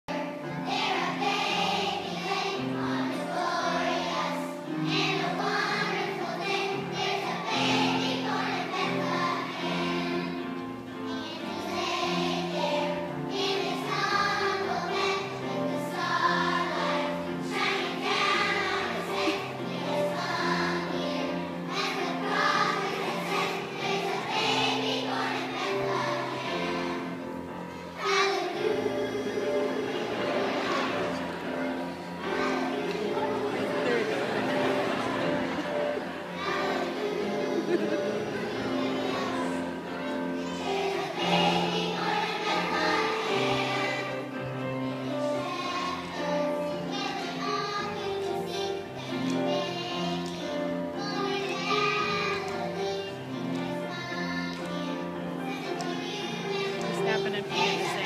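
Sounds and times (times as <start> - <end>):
children's choir singing: 0.1 - 58.0.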